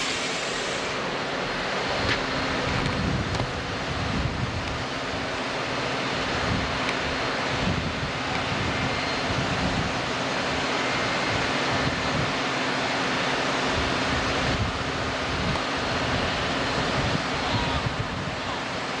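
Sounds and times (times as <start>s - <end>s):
idling train hum and hiss: 0.0s - 19.0s
wind buffeting microphone: 1.9s - 12.5s, 13.6s - 18.9s.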